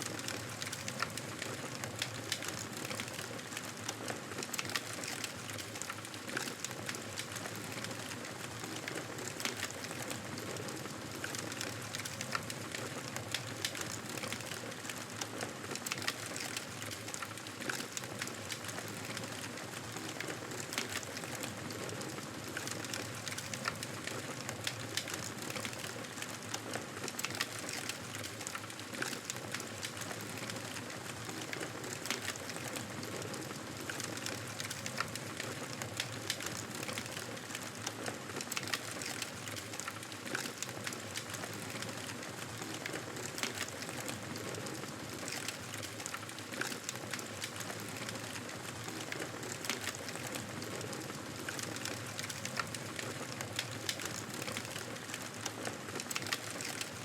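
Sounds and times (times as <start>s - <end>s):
campfire crackling: 0.2s - 57.0s.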